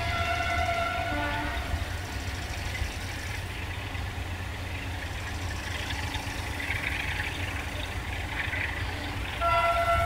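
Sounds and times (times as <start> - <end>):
locomotive engine rumble: 0.0 - 10.0.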